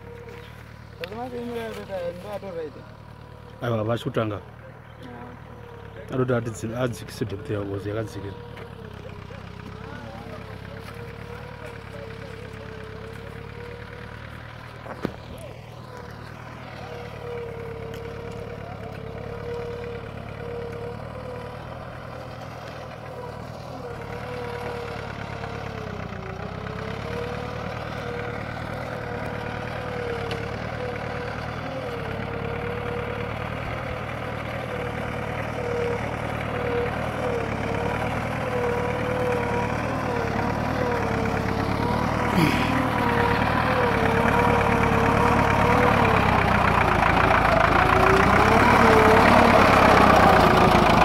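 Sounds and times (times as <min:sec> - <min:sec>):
tractor engine under load: 0:00.0 - 0:51.0.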